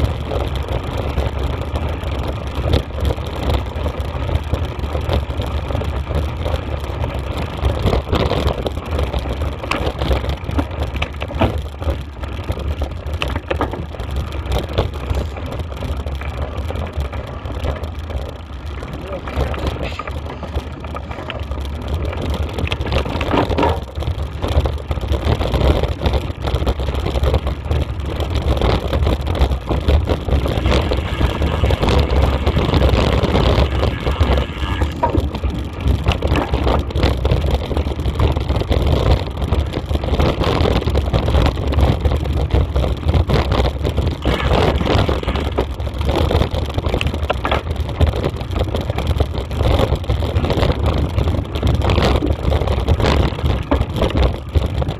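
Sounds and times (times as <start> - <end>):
camera knocks and rattles: 0.0 - 54.9
wind buffeting microphone: 0.0 - 54.9.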